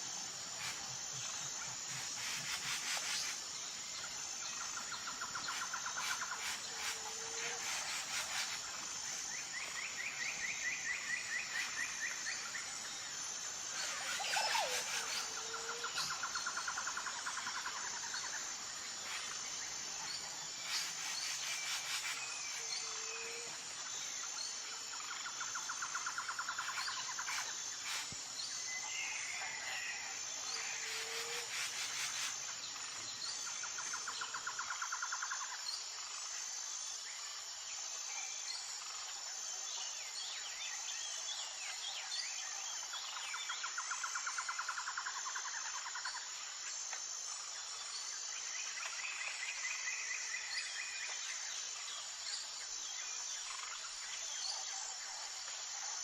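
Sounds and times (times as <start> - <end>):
pulsing insect drone: 0.0 - 56.0.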